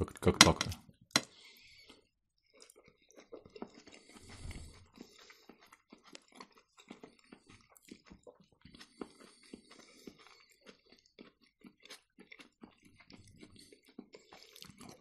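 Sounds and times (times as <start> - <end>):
close-up chewing: 1.2 - 15.0.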